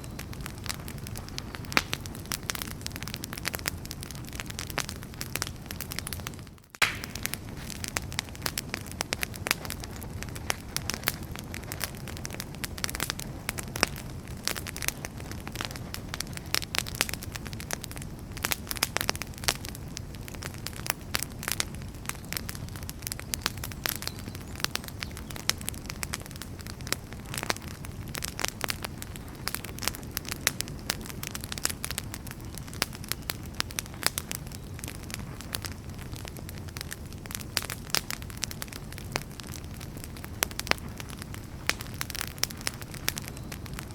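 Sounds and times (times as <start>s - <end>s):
firewood crackling and popping: 0.0s - 43.9s
low rumble of flame: 0.0s - 43.9s.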